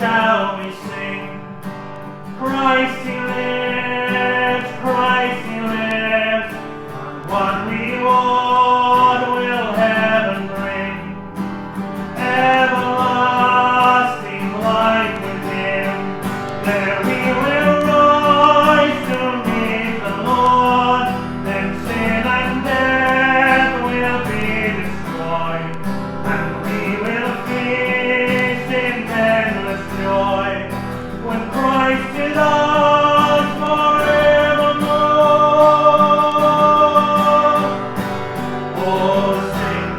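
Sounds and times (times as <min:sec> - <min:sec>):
person singing: 0:00.0 - 0:11.3, 0:11.9 - 0:39.9
guitar: 0:00.0 - 0:39.9.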